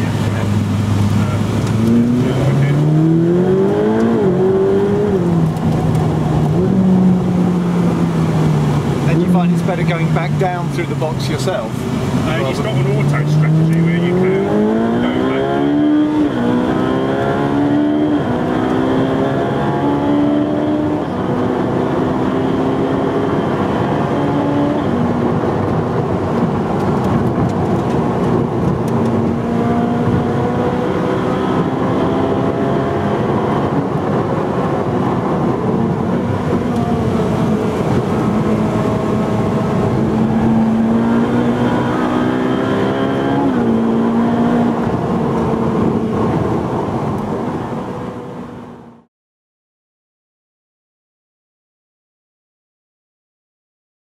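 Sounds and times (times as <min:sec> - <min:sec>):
car engine revving: 0:00.0 - 0:49.1.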